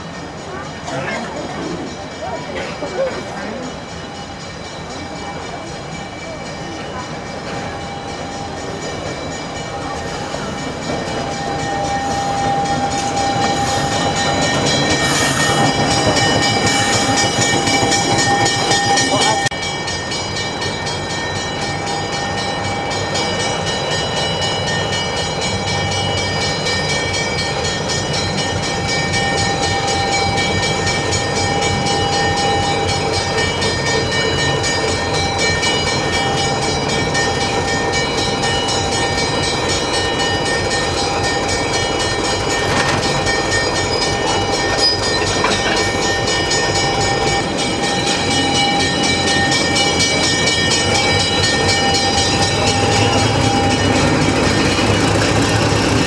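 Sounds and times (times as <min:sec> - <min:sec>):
diesel locomotive engine drone: 0:00.0 - 0:56.0
wheels rumbling on rails: 0:00.0 - 0:56.0.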